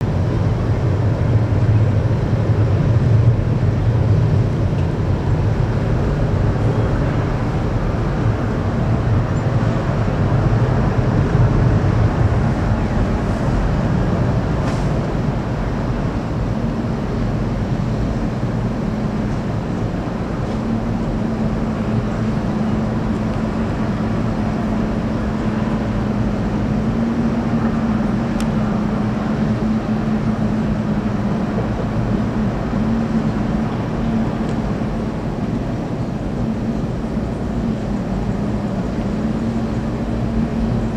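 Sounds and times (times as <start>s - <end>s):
jet engines roaring at takeoff: 0.0s - 40.9s
steady low hum: 0.0s - 40.9s.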